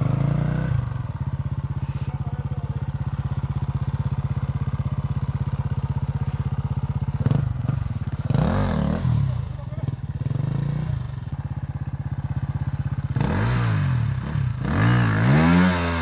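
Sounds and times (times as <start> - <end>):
dirt bike engine idling and revving: 0.0 - 16.0.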